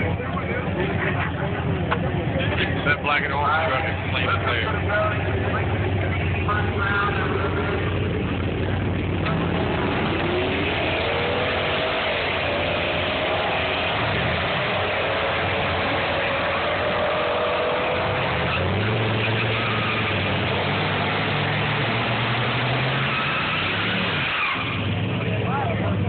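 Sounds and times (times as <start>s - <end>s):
engine held at raised revs: 0.0s - 26.0s
turbocharged engine idling with whine: 0.0s - 26.0s.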